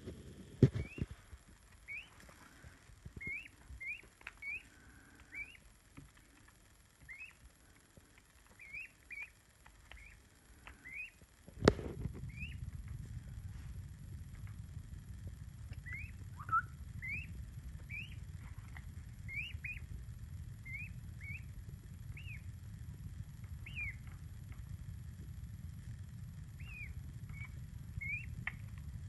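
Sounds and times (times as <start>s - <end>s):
peachick peeping: 0.6s - 13.0s, 15.5s - 24.7s, 26.4s - 28.9s.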